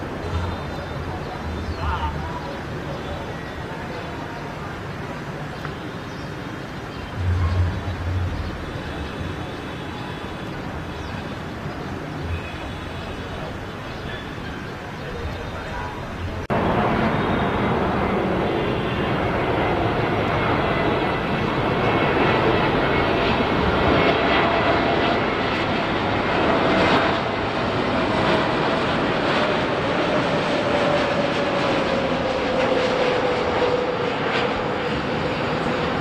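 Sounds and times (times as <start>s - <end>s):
jet engine whine: 0.0s - 36.0s
jet engines rushing: 0.0s - 36.0s.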